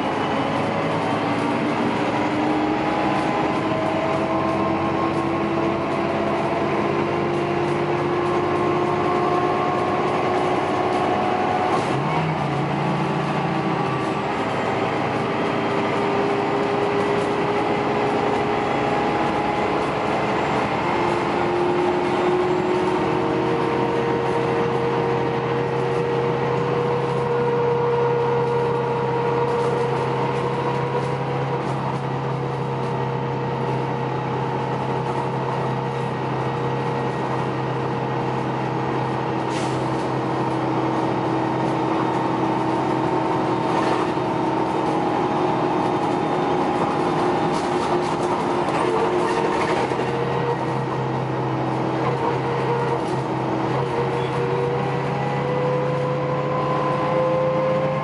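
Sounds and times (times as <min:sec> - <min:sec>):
bus engine hum and whine: 0:00.0 - 0:58.0.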